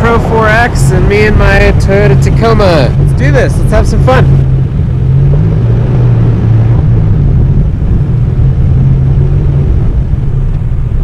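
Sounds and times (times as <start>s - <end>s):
pickup truck engine drone: 0.0s - 11.0s.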